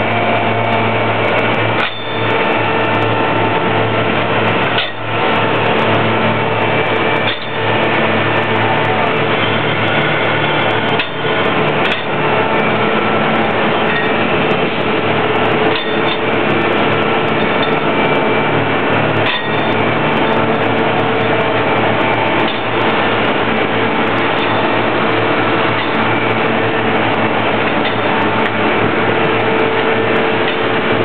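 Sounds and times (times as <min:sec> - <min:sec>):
heavy machinery engine drone: 0:00.0 - 0:31.0.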